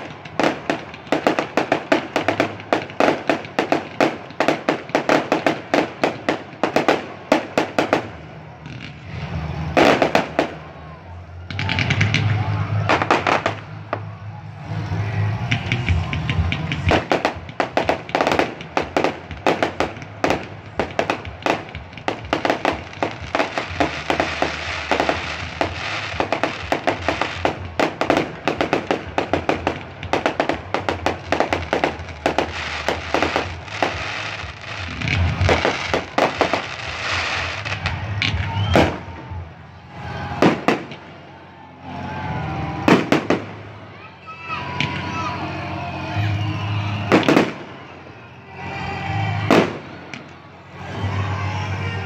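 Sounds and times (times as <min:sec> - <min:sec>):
firework bangs: 0:00.0 - 0:45.1, 0:46.8 - 0:48.0, 0:48.6 - 0:51.2
fireworks crackling and popping: 0:00.0 - 0:45.4, 0:46.2 - 0:52.0.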